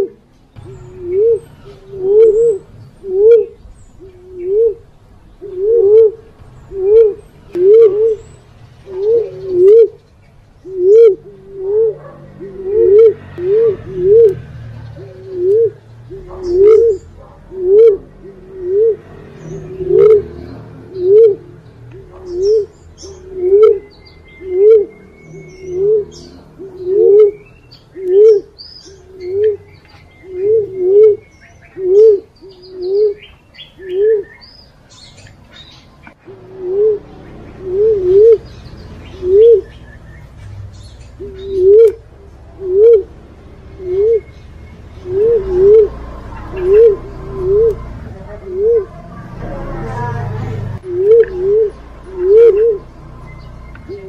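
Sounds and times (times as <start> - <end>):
dove cooing: 0.0 - 10.0, 10.6 - 34.5, 36.1 - 40.0, 41.0 - 54.0.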